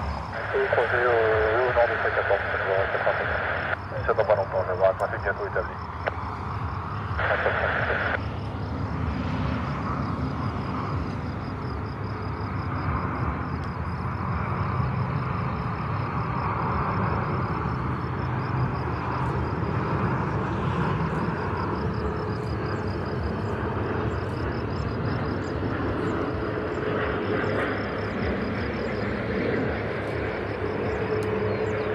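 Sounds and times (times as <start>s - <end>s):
jet engines rushing: 0.0s - 31.9s.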